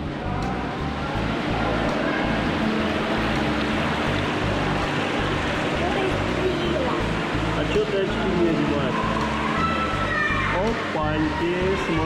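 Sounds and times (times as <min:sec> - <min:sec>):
water splashing in a pool: 0:00.3 - 0:12.0.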